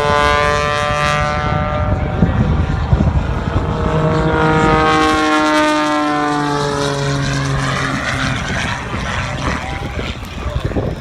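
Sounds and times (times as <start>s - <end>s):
biplane engine and propeller flying by: 0.0s - 11.0s.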